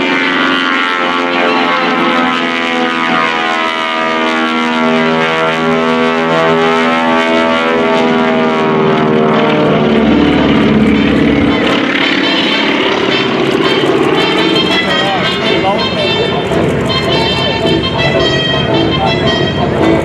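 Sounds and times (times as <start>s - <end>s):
propeller plane engines droning: 0.0s - 20.0s.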